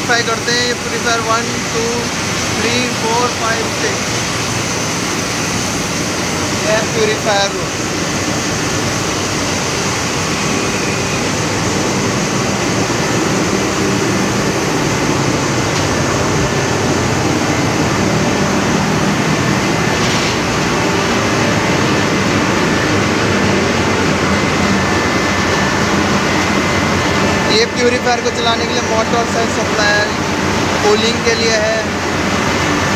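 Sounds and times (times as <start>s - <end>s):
machinery humming: 0.0s - 32.9s.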